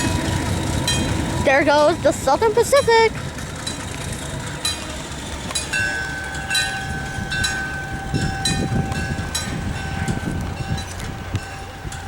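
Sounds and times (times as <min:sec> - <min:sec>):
locomotive bell striking: 0:00.0 - 0:12.0
low train rumble: 0:00.0 - 0:12.0.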